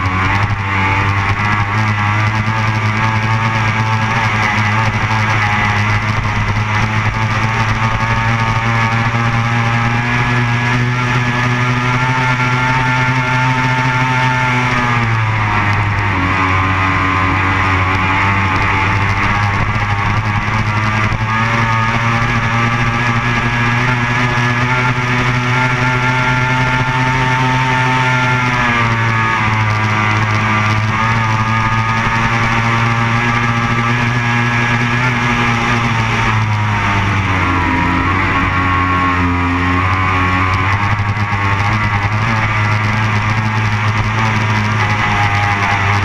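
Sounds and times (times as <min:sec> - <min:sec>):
powerboat engine drone: 0:00.0 - 0:46.0.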